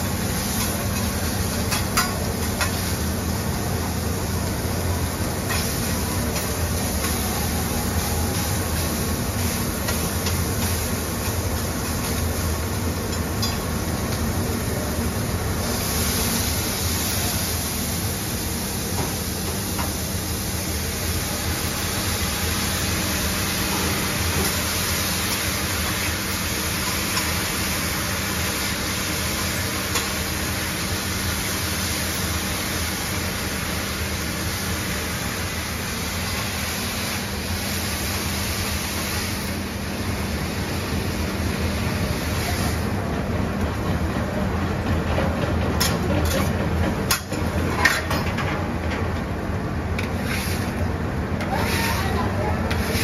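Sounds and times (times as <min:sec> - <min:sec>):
food sizzling on griddle: 0:00.0 - 0:42.9, 0:50.0 - 0:53.0.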